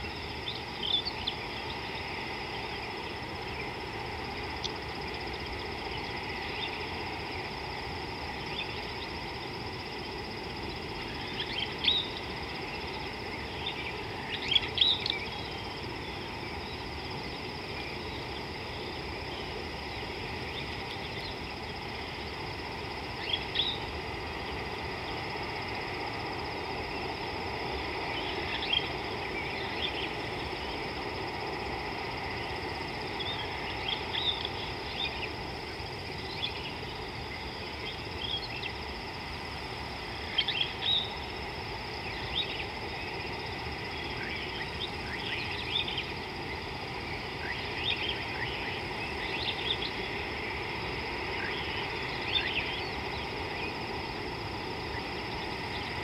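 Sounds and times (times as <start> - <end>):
faint high insect-like tone: 0.0 - 56.0
outdoor background hiss: 0.0 - 56.0.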